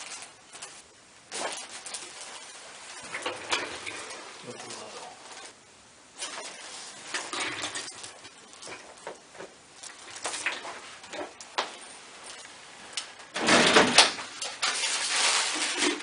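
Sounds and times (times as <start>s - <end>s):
soft rustling: 0.0s - 13.3s.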